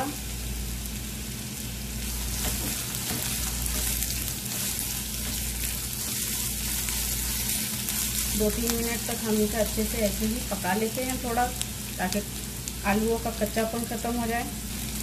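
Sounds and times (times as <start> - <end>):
potatoes and onions sizzling in oil: 0.0 - 15.0.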